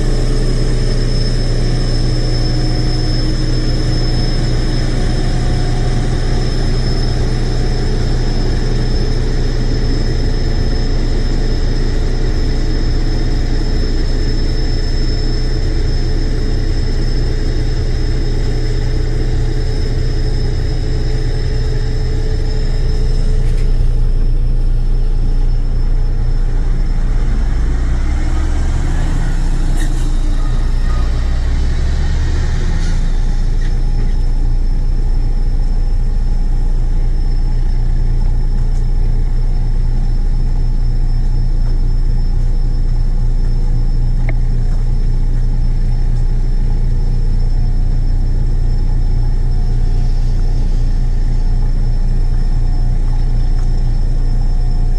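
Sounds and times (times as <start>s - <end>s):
faint high whine: 0.0s - 54.9s
heavy engine rumbling: 0.0s - 54.9s.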